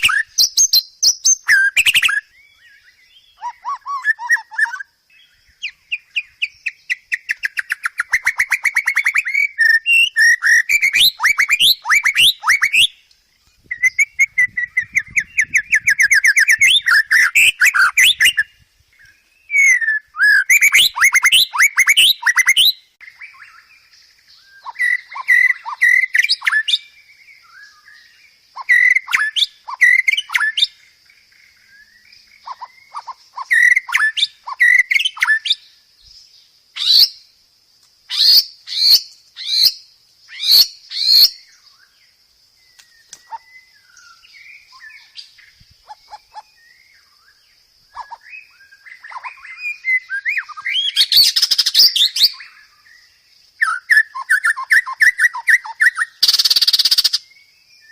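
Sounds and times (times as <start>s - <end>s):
songbird whistling and chattering: 0.0s - 23.7s, 24.3s - 30.9s, 31.6s - 36.2s, 36.8s - 37.3s, 38.1s - 42.0s, 42.6s - 57.9s.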